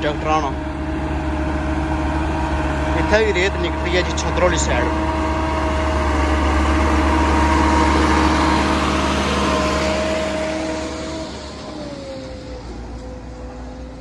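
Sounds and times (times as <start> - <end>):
tractor diesel engine passing: 0.0 - 14.0.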